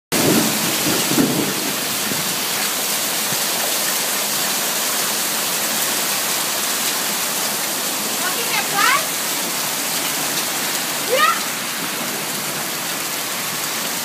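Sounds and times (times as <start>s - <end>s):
heavy rain pouring: 0.1s - 14.0s.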